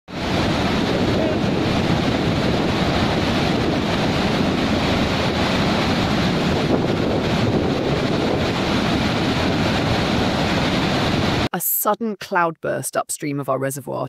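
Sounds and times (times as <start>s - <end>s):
water rushing over dam gate: 0.1s - 11.5s.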